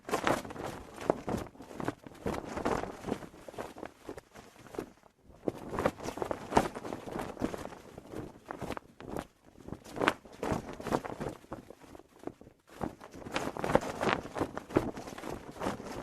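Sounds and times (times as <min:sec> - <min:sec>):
cloth flag flapping: 0:00.0 - 0:16.0.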